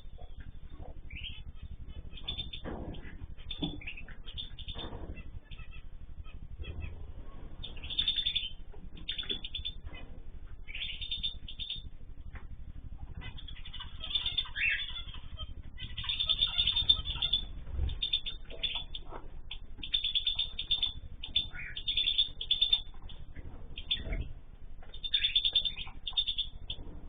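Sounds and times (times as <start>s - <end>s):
small cage birds chirping: 0.0s - 27.0s
steady low hum: 0.0s - 27.0s.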